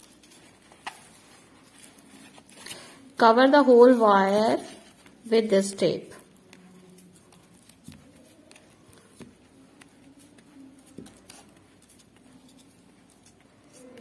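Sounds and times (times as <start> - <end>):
tape rustling: 0.0 - 14.0.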